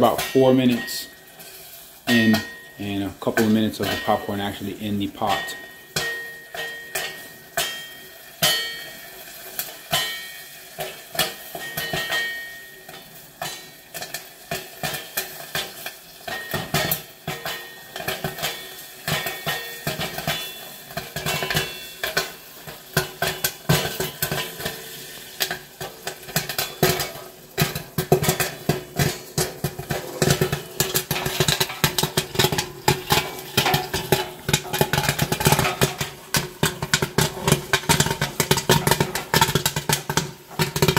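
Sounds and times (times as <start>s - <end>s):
popcorn popping: 0.0s - 40.9s.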